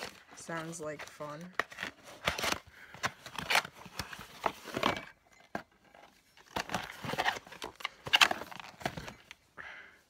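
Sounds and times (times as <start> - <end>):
packaging crinkling and tearing: 0.0 - 5.1, 5.8 - 9.4.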